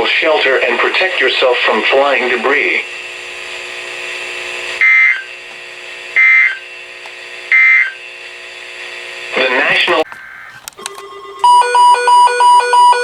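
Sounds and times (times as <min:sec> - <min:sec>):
steady radio hum: 0:00.0 - 0:10.8.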